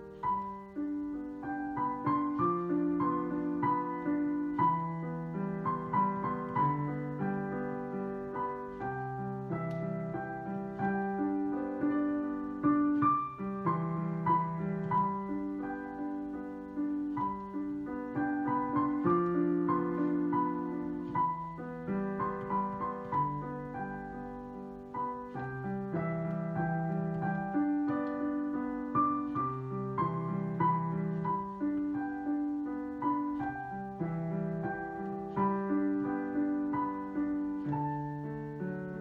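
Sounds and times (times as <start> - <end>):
solo piano piece: 0.0 - 39.0.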